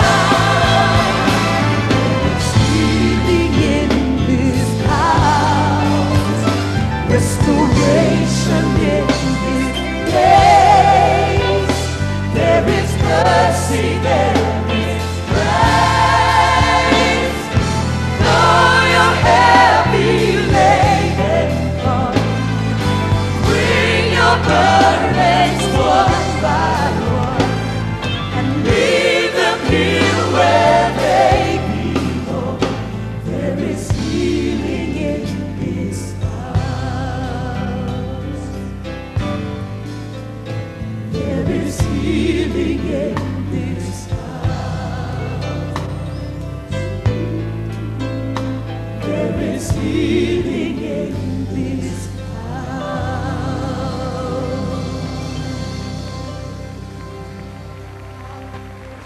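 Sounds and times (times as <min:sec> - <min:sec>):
choir singing gospel: 0:00.0 - 0:59.0.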